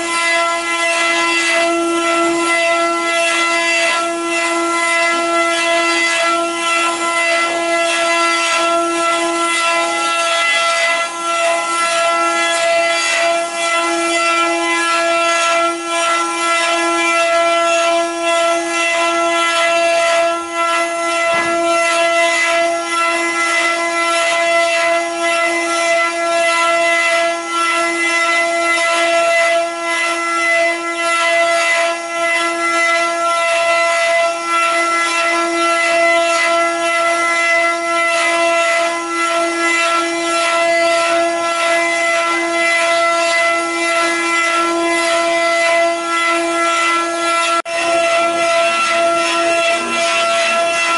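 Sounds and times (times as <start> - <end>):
router spindles whining: 0.0 - 50.9.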